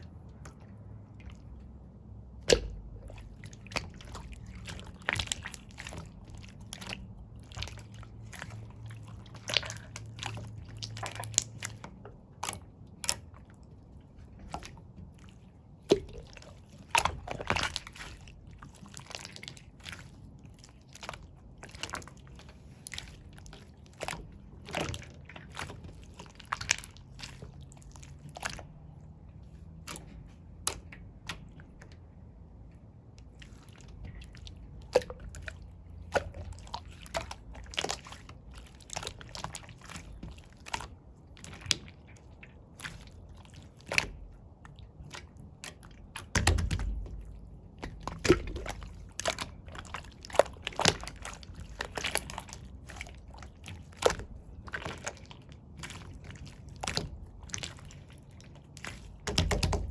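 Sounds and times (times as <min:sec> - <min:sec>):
slime squishing by hand: 0:00.0 - 0:59.9.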